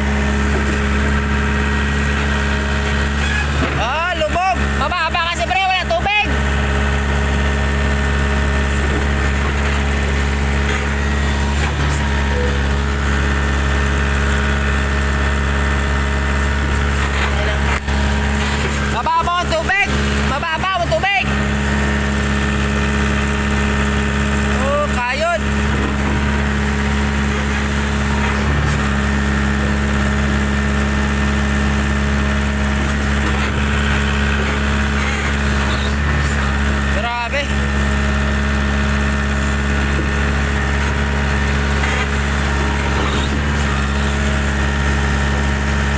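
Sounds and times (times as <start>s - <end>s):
backhoe engine idling: 0.0s - 45.9s.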